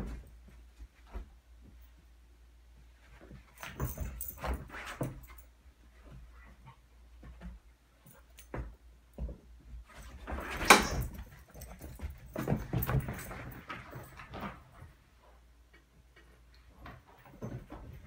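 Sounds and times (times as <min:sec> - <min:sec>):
dogs scuffling: 0:02.9 - 0:18.0.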